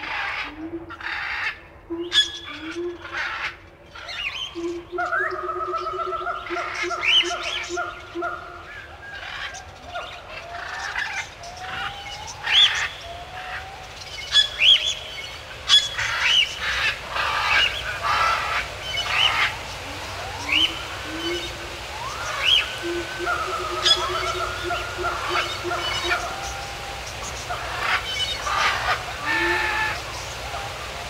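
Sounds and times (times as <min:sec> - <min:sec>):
long held bird call: 0:04.1 - 0:31.0.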